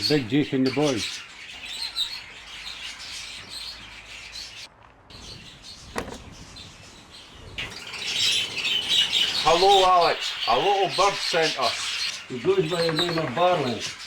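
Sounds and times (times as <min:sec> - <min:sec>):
caged birds chirping: 0:00.0 - 0:14.0.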